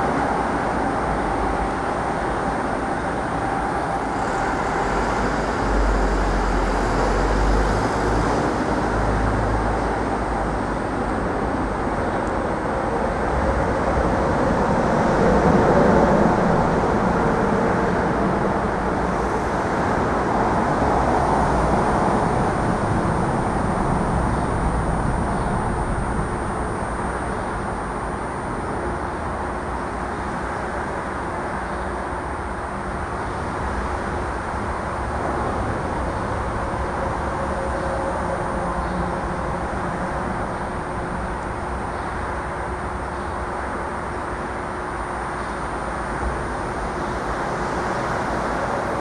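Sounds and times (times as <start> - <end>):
electric trains rumbling: 0.0 - 49.0.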